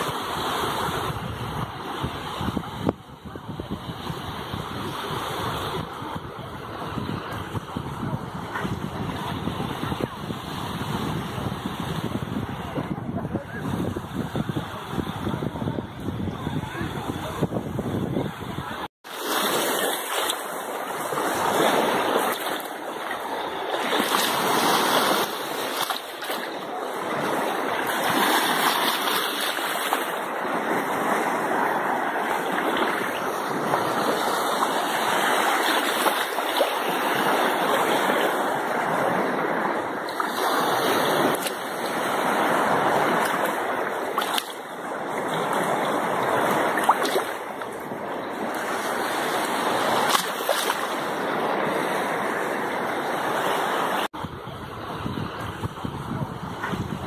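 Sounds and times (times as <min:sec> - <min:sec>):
small waves lapping: 0:00.0 - 0:57.0.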